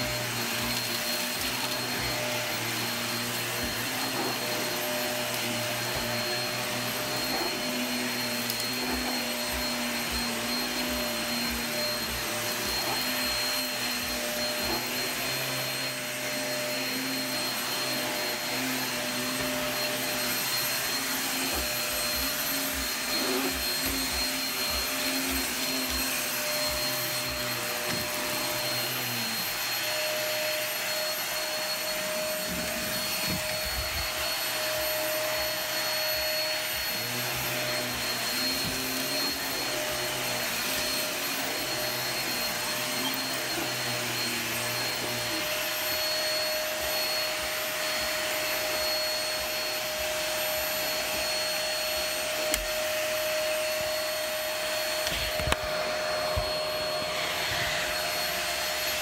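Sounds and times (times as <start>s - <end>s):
vacuum cleaner on carpet: 0.0s - 59.0s.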